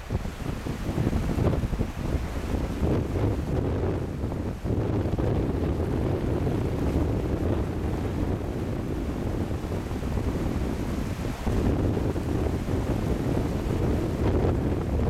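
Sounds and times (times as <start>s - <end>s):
small waves washing onto beach: 0.0s - 15.0s
wind buffeting microphone: 0.0s - 15.0s.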